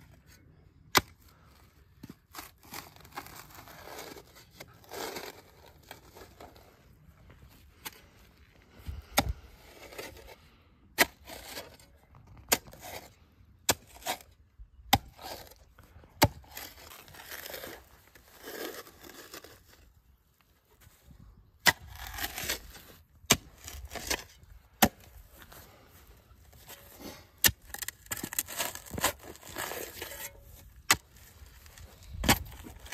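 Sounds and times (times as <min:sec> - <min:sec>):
scraping and tearing of turf: 0:00.1 - 0:32.9.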